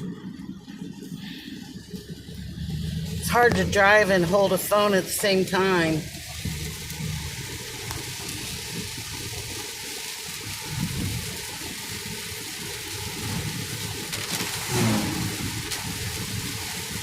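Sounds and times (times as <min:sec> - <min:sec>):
heavy rain: 0:00.0 - 0:17.0
tyre spray on wet road: 0:01.2 - 0:17.0.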